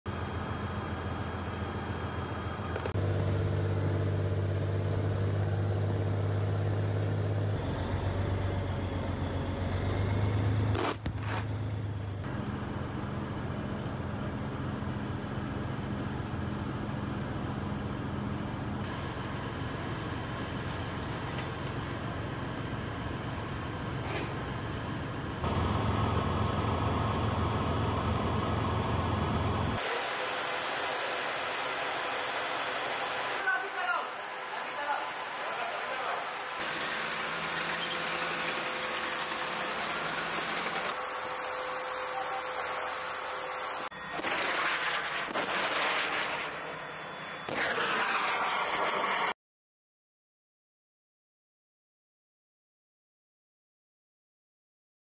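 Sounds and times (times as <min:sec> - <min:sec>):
diesel engines droning: 0:00.1 - 0:47.9.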